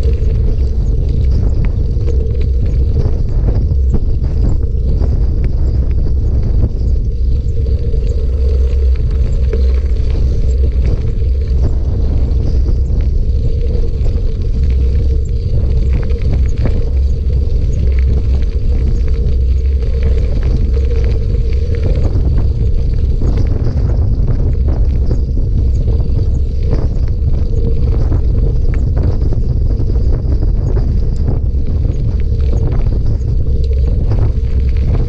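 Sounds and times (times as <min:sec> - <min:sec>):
bicycle rolling on gravel: 0:00.0 - 0:35.0.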